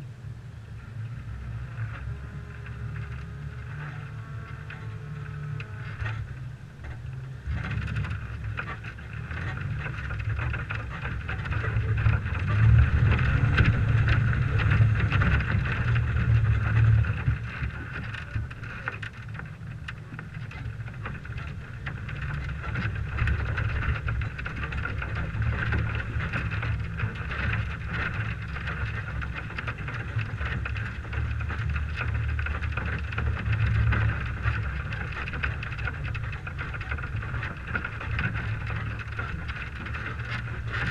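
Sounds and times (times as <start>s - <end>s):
engine and tyre rumble: 0.0s - 40.9s
wind on microphone: 0.0s - 40.9s.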